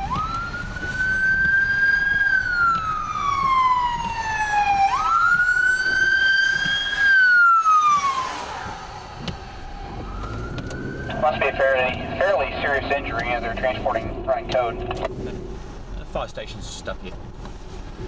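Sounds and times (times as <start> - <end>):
ambulance siren wailing: 0.0 - 15.1
car road noise: 0.0 - 18.0.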